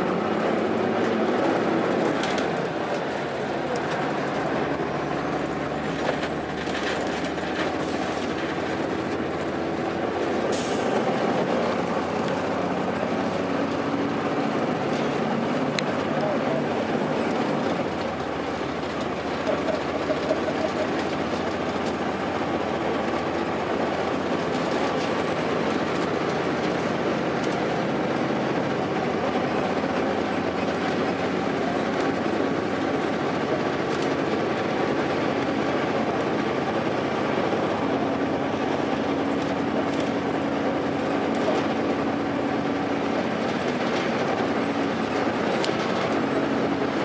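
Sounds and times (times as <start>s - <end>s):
bus diesel engine running: 0.0s - 47.0s
road and tyre noise: 0.0s - 47.0s.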